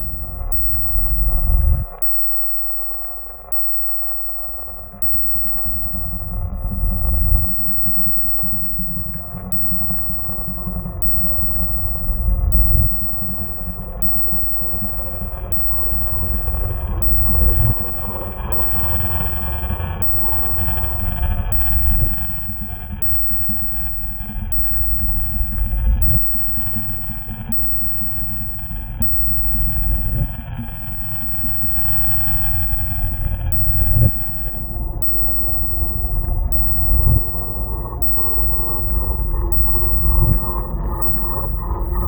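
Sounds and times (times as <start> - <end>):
droning horror ambience: 0.0 - 42.0
high eerie drone: 0.0 - 42.0.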